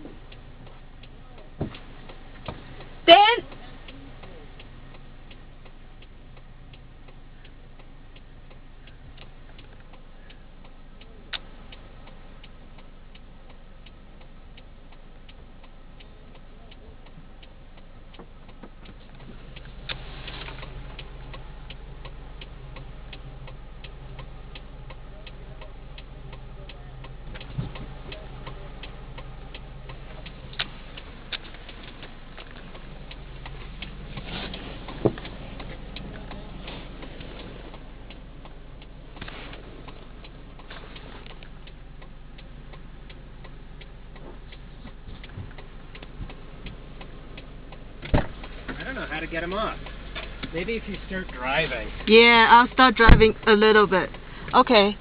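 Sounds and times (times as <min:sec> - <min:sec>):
car engine idling: 0:00.0 - 0:55.0
car indicator ticking: 0:00.0 - 0:55.0.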